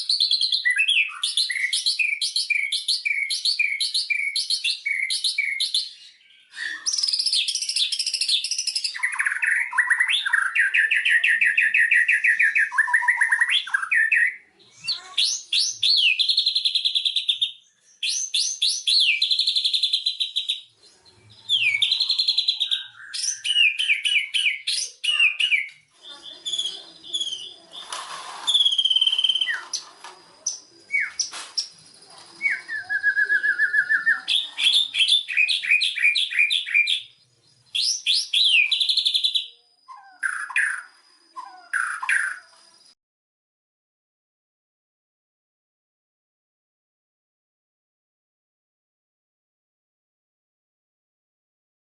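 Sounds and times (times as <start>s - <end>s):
bird singing varied song: 0.0s - 43.0s.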